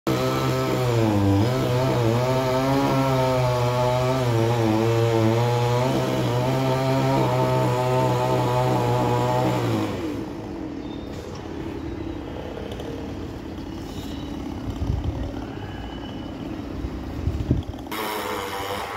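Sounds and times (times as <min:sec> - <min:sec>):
chainsaw cutting wood: 0:00.1 - 0:10.5, 0:12.7 - 0:15.3, 0:16.4 - 0:18.9
outdoor background: 0:00.1 - 0:18.9.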